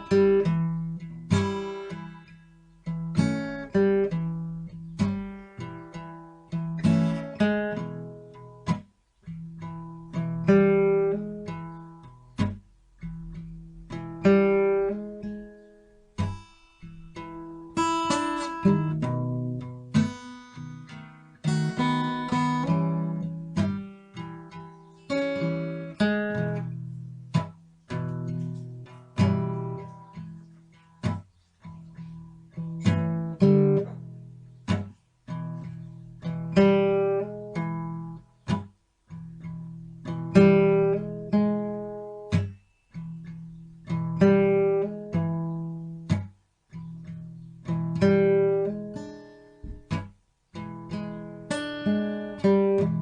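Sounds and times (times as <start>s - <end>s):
acoustic guitar strummed and picked: 0.0s - 53.0s.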